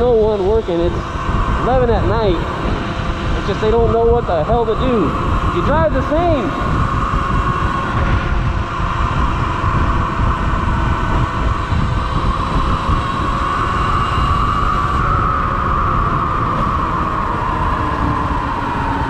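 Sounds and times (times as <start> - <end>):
electric motor whine: 0.0 - 19.0
wind rushing over microphone: 0.0 - 19.0.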